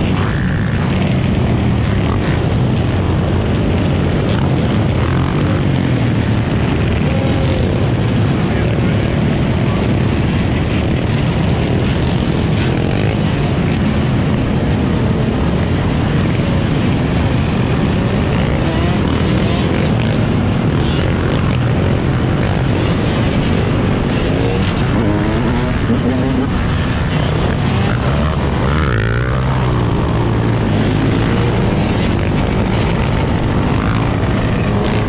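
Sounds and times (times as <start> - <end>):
dirt bike engines droning: 0.0 - 35.0.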